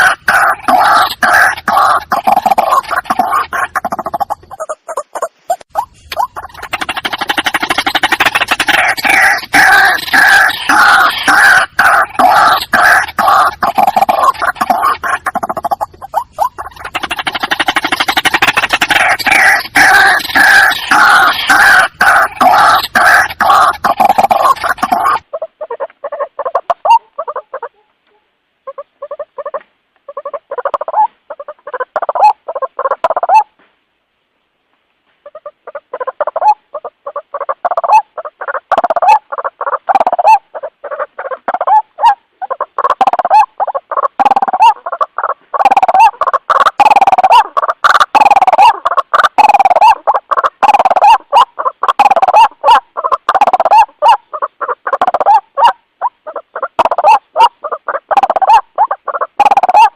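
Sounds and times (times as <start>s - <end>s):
bird croaking calls: 0.0s - 33.6s, 35.2s - 59.9s.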